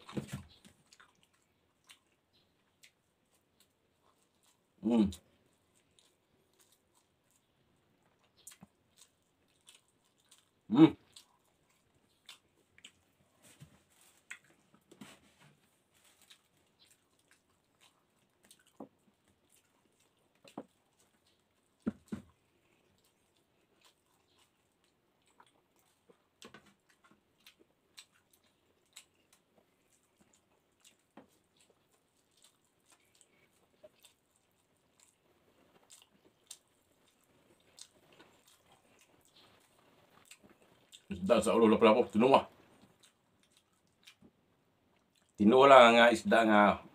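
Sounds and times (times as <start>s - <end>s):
man chewing and lip smacking: 0.0s - 41.3s, 42.5s - 45.4s.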